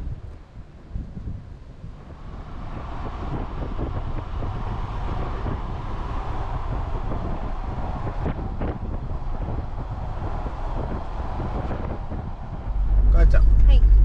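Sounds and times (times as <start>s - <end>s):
road and wind rumble: 0.0s - 14.0s
wind buffeting microphone: 0.0s - 14.0s.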